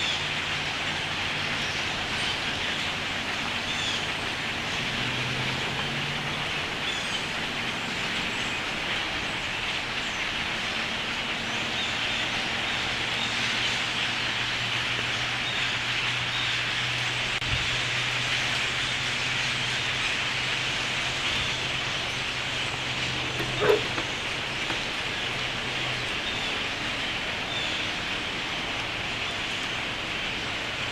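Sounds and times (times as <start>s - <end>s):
birds chattering: 0.0s - 30.9s.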